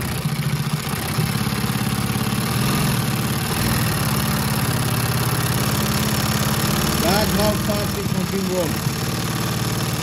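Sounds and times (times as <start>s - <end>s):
industrial sewing machine stitching: 0.0s - 10.0s.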